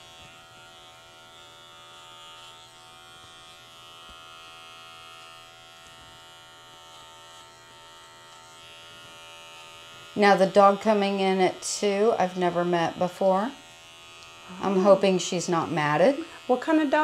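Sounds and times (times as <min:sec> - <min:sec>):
electric clippers buzzing: 0:00.0 - 0:17.0.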